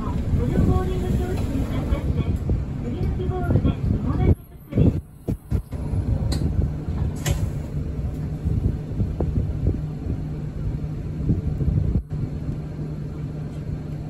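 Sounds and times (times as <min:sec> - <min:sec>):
bus engine with road rumble: 0:00.0 - 0:14.0.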